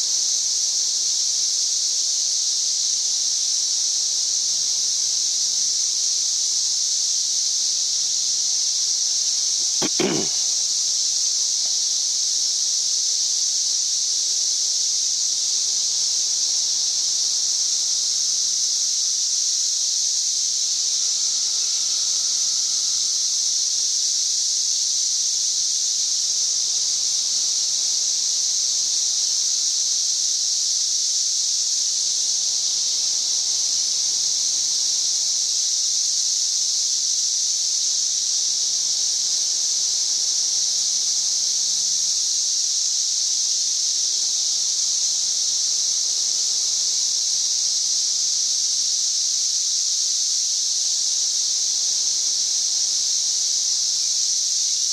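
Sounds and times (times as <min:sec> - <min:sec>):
cicadas droning: 0:00.0 - 0:54.9.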